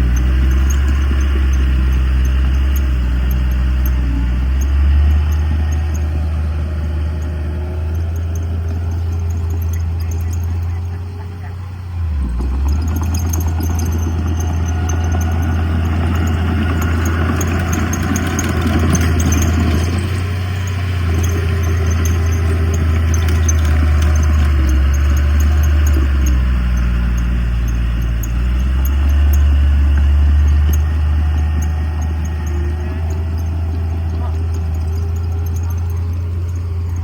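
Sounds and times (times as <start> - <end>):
heavy machinery diesel engine droning: 0.0 - 37.0.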